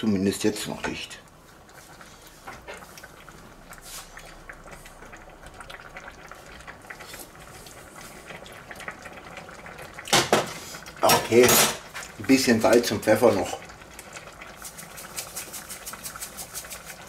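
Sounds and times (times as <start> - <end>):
stew bubbling in a pot: 0.0 - 17.0.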